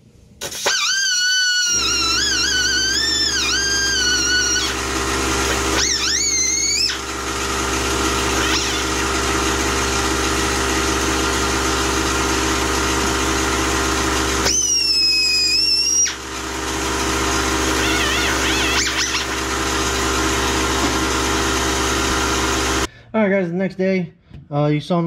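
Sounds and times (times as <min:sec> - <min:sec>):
air cut-off tool whining: 0:00.4 - 0:22.9
cut-off wheel grinding hose: 0:00.4 - 0:22.9.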